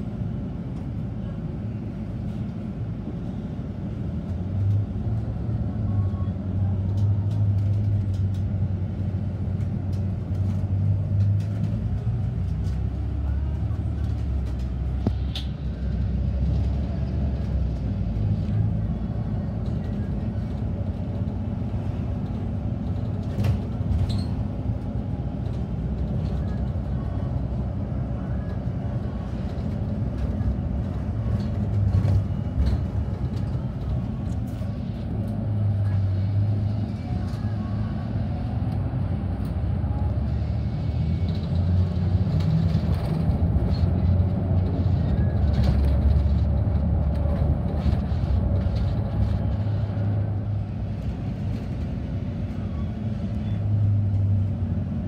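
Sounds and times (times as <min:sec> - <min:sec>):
bus engine hum: 0:00.0 - 0:55.0
road noise: 0:00.0 - 0:55.0.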